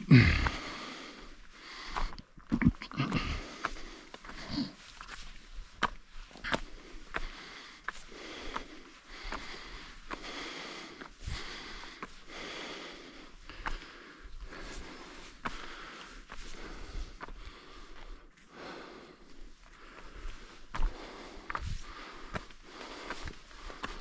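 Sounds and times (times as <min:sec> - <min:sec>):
footsteps on trail: 0:00.0 - 0:24.0
person breathing heavily: 0:00.0 - 0:24.0.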